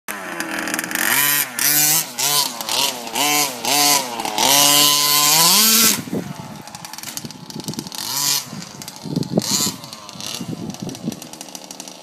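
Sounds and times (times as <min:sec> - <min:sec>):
two-stroke engine revving: 0:00.1 - 0:12.0.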